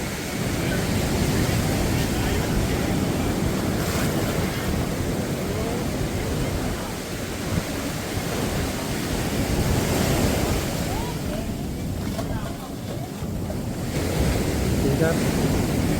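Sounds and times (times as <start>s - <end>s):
waves breaking on a beach: 0.0s - 15.9s
wind buffeting the microphone: 0.0s - 15.9s.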